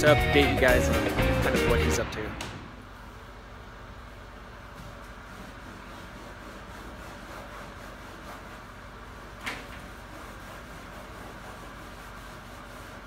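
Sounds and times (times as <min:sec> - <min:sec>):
low room hum: 0:02.0 - 0:13.0.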